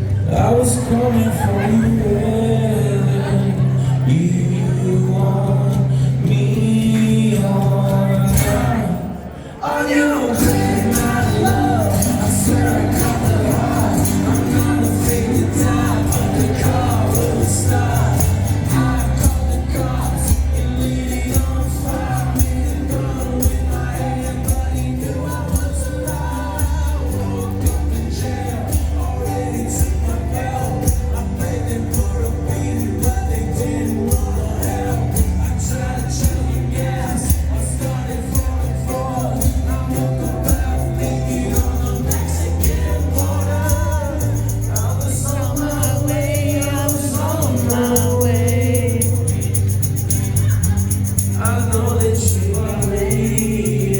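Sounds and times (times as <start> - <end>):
rock band playing acoustic: 10.3 - 53.9.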